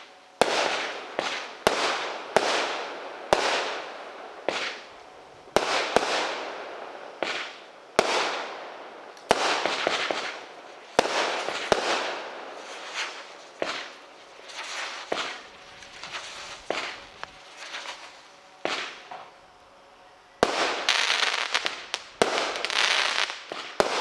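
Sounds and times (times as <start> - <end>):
firework bangs: 0.0 - 19.8, 20.4 - 24.0
firework hiss: 0.0 - 24.0.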